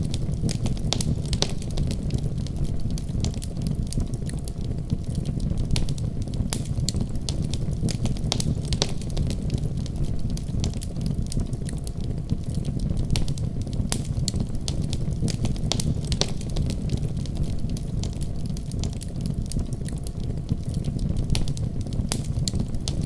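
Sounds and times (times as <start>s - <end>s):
fire flames rumbling: 0.0s - 23.0s
wood fire pops and snaps: 0.0s - 23.0s.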